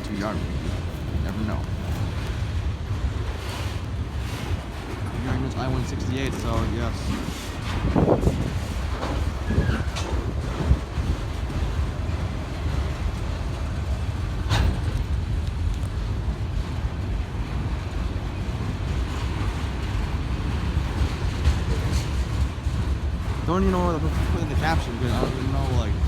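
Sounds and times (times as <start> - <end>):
freight train cars rolling: 0.0 - 26.0.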